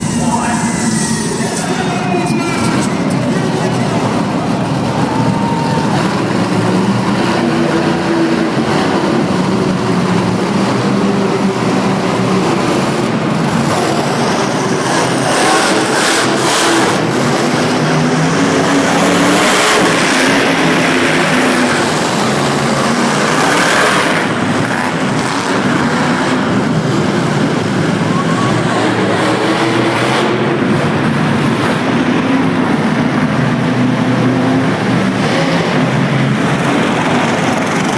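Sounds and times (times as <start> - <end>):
monster truck engine revving: 0.0 - 37.9.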